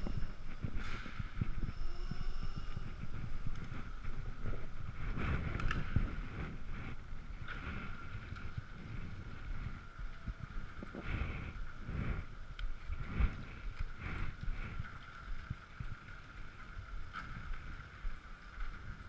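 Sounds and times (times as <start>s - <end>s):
electric scooter whine: 0.0s - 19.0s
wind and tyre rumble: 0.0s - 19.0s.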